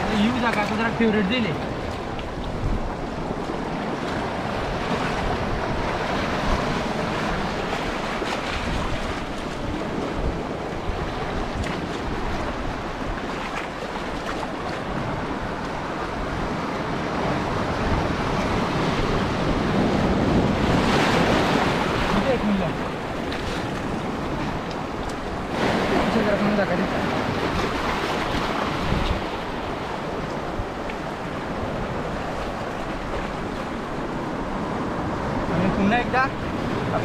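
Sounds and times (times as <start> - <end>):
surf washing around rocks: 0.0 - 37.0
wind buffeting microphone: 0.0 - 37.0.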